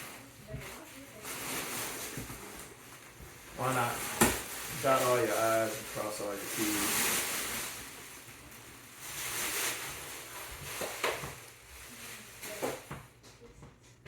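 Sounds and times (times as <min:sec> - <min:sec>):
packaging rustling: 0:00.0 - 0:12.9.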